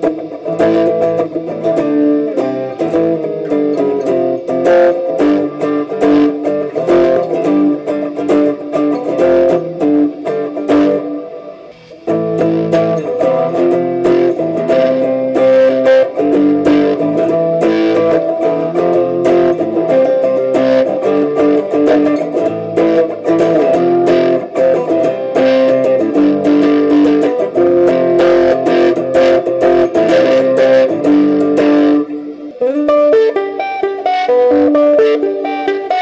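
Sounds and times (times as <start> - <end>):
electric guitar notes and chords: 0.0 - 36.0.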